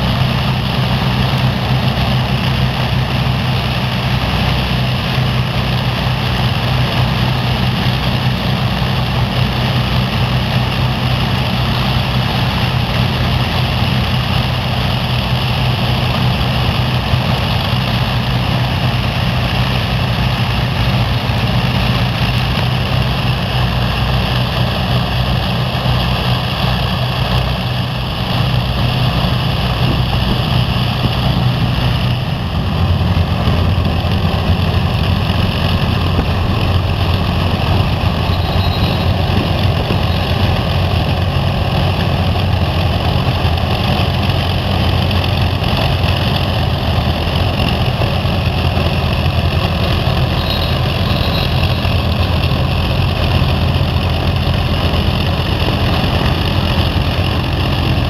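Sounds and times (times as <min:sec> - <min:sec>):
aircraft piston engines droning: 0:00.0 - 0:58.0.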